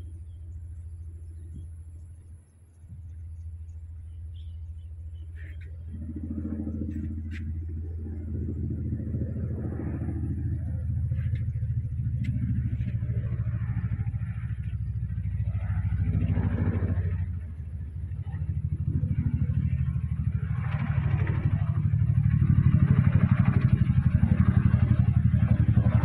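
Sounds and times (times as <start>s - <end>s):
helicopter rotor beat: 0.0s - 26.0s.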